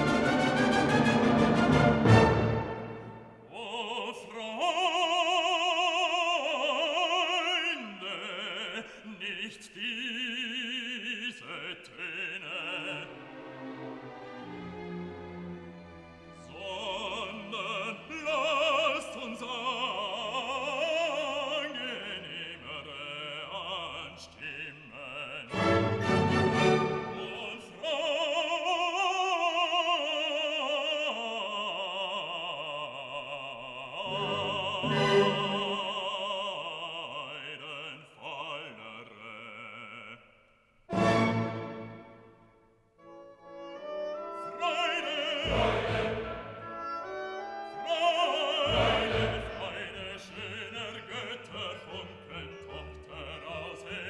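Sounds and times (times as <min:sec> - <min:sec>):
opera singer with vibrato: 0:03.0 - 0:13.4, 0:16.4 - 0:40.3, 0:43.4 - 0:54.0.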